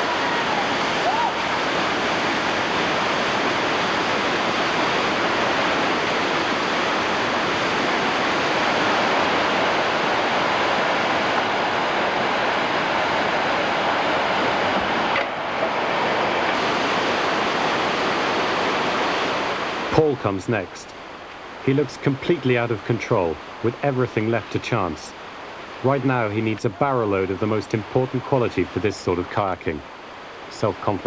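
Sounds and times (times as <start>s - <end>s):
whitewater rushing over rocks: 0.0s - 31.0s.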